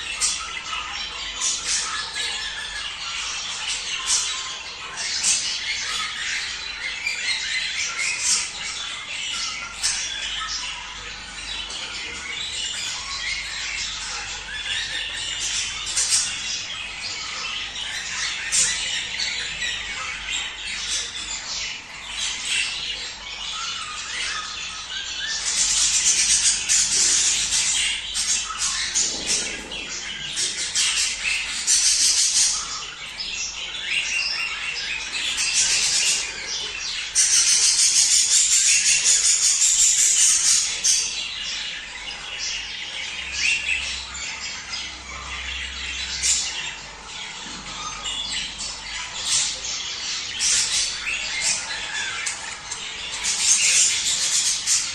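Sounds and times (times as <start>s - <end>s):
budgerigars chattering and warbling: 0.0s - 54.9s.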